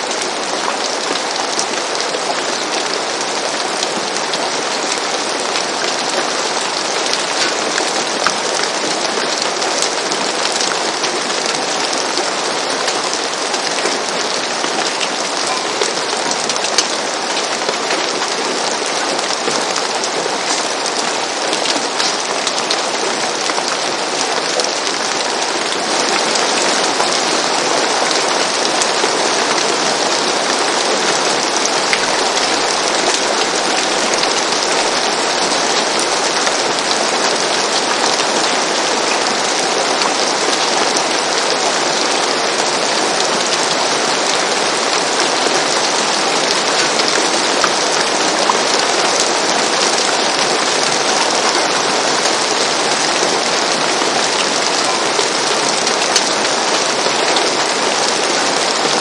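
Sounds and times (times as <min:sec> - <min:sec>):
rain falling on a roof: 0:00.0 - 0:59.0.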